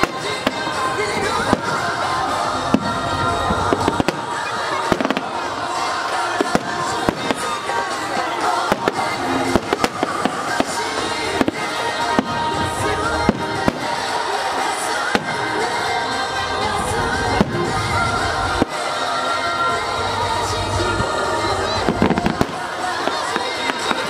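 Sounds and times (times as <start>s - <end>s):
fireworks bursting: 0.0s - 24.0s
music playing: 0.0s - 24.0s.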